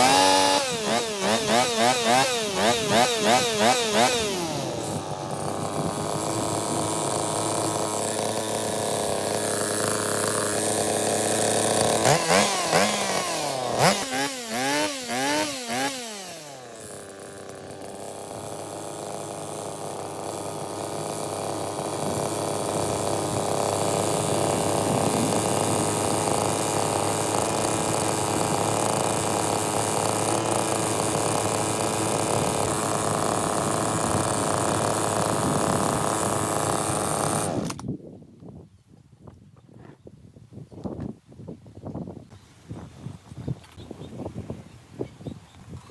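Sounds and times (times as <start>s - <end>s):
lawn mower engine revving: 0.0s - 37.8s.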